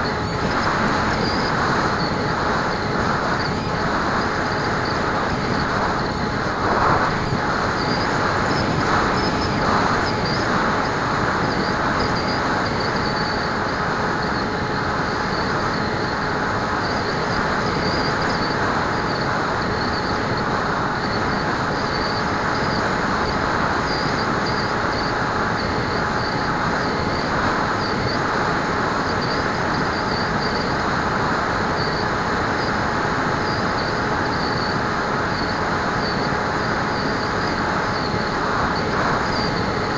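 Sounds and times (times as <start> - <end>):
electric motor and propeller hum: 0.0 - 39.9
wind rushing over camera: 0.0 - 39.9.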